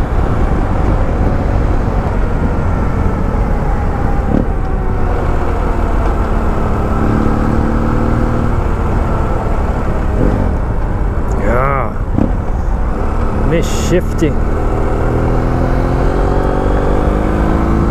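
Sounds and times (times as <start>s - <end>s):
rushing wind: 0.0s - 17.9s.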